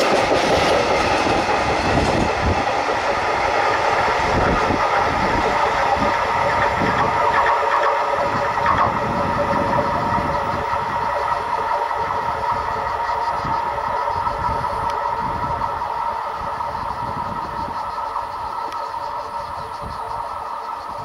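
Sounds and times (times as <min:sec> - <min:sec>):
freight train rolling by: 0:00.0 - 0:21.0.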